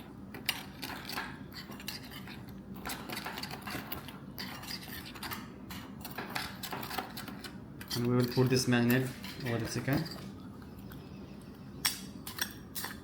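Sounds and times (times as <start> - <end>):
spoon stirring in a bowl: 0.0 - 13.0.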